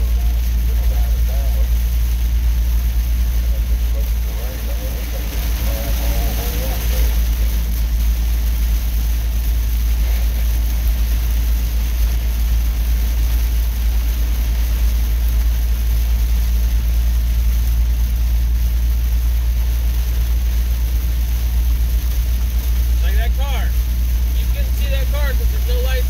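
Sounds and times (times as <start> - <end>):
rain and road spray hiss: 0.0 - 26.0
vehicle engine and tyre noise: 0.0 - 26.0.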